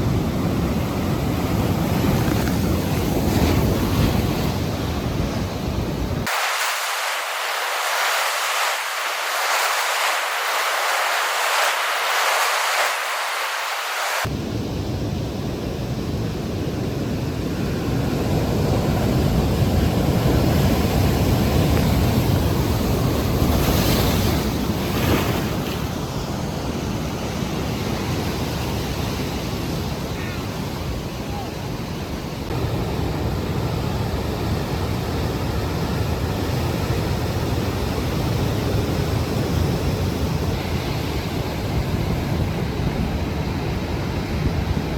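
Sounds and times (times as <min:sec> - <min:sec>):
ocean surf rushing: 0:00.0 - 0:44.9.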